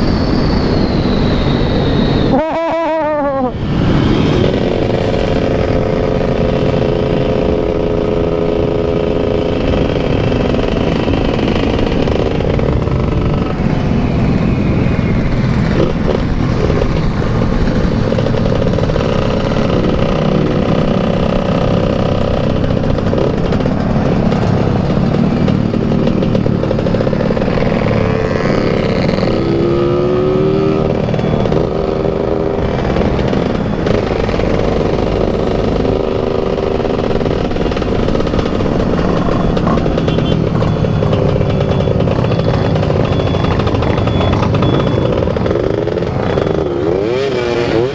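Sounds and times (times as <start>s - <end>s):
motorcycle engine running: 2.3s - 47.9s.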